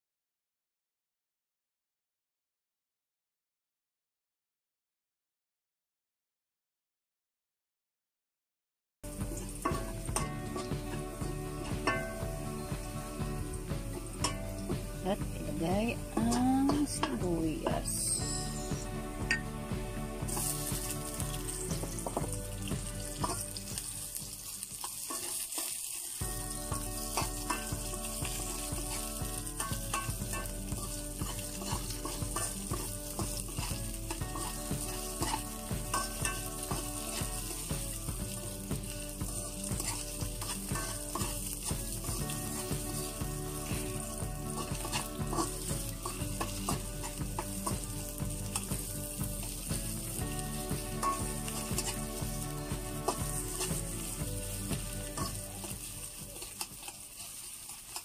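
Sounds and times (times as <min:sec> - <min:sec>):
garlic and onion sizzling: 0:09.0 - 0:58.0
metal spoon scraping a pan: 0:09.3 - 0:13.0, 0:13.9 - 0:19.6, 0:20.2 - 0:58.0.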